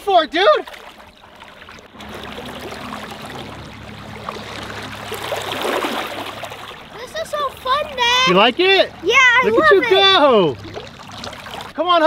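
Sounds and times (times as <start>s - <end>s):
water trickling and churning: 0.0s - 12.0s.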